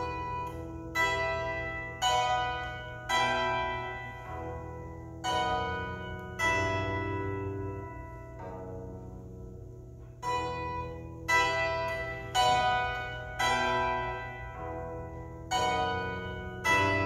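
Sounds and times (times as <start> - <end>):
plucked string chords: 0.0 - 17.0.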